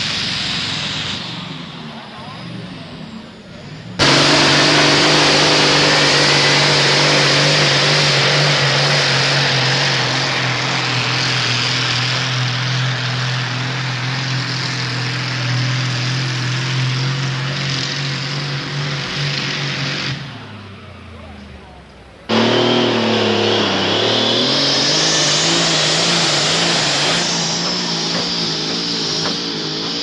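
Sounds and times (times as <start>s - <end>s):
tractor engine running flat out: 0.0s - 30.0s.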